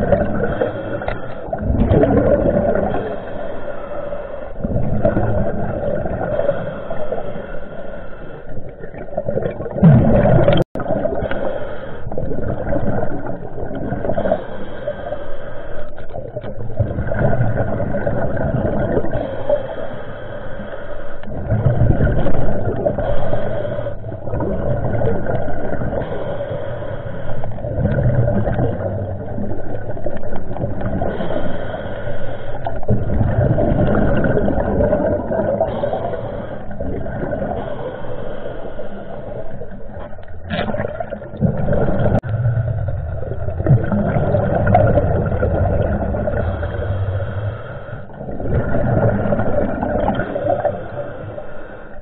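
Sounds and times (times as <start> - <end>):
steady droning hum: 0.0 - 8.8, 10.3 - 52.0
water churning and gurgling underwater: 0.0 - 52.0.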